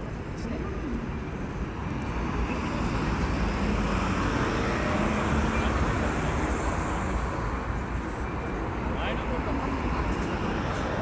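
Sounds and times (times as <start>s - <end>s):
cars driving past: 1.7s - 11.0s.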